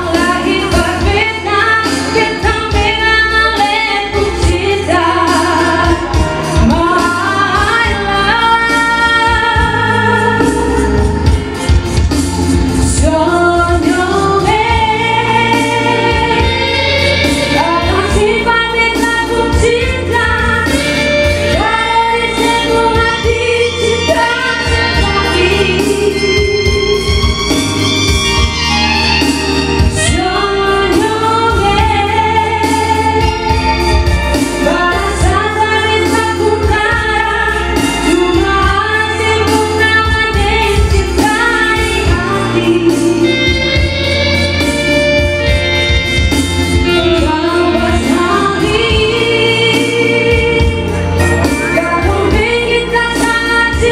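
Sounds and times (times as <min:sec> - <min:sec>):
woman singing slow melody: 0:00.0 - 0:11.4, 0:12.8 - 0:27.2, 0:30.0 - 0:44.8, 0:46.9 - 0:53.9
bass guitar: 0:00.0 - 0:53.9
drums: 0:00.0 - 0:53.9.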